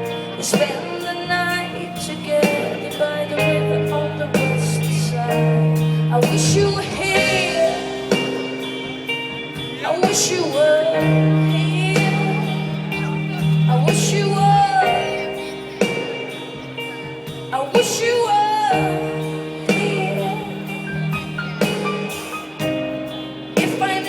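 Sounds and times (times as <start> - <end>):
live rock band music: 0.0 - 24.0
steady bass line: 0.0 - 24.0.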